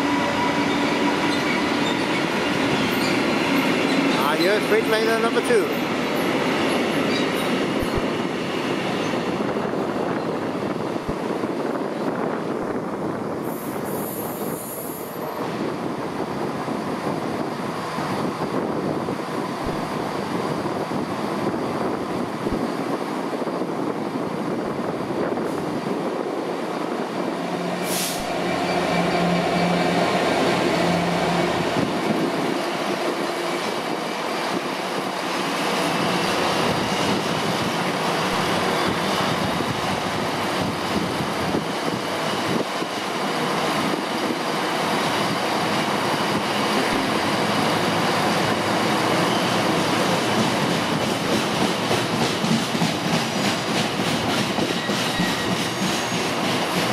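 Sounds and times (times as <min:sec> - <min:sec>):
diesel locomotive engine passing: 0:00.0 - 0:56.9.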